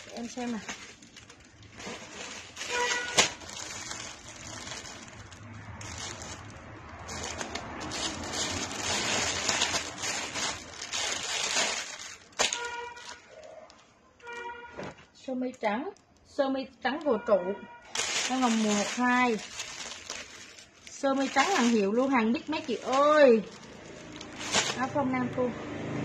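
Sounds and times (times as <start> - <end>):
plastic packaging crinkling: 0.0 - 14.5, 17.9 - 25.1.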